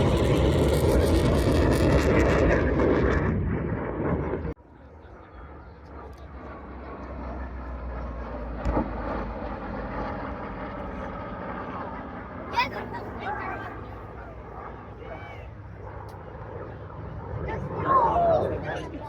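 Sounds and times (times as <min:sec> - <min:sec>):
airplane engine noise: 0:00.0 - 0:19.0.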